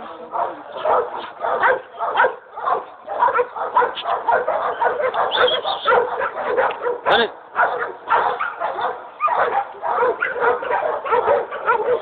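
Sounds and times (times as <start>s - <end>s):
dogs barking: 0.3s - 12.0s.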